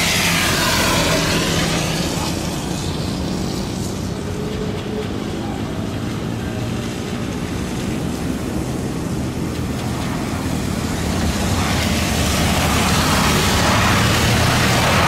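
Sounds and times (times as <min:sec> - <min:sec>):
jet engine drone: 0:00.0 - 0:15.0
jet roar through water spray: 0:00.0 - 0:15.0.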